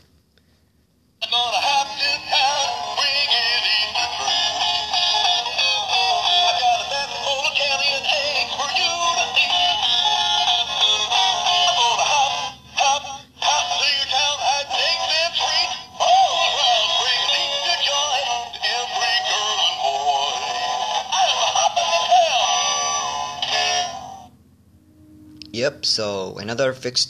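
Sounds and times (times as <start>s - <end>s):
toy playing synthesized song: 1.2s - 24.3s.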